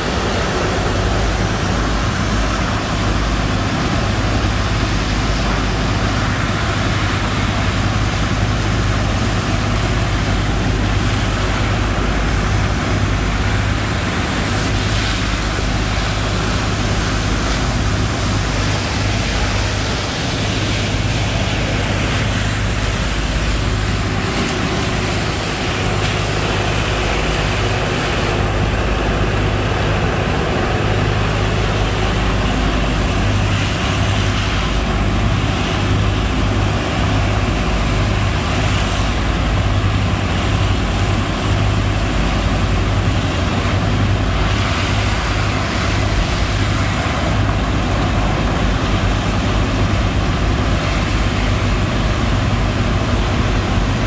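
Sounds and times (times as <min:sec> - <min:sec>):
pump engine running: 0:00.0 - 0:54.0
rushing sand and water: 0:00.0 - 0:54.0.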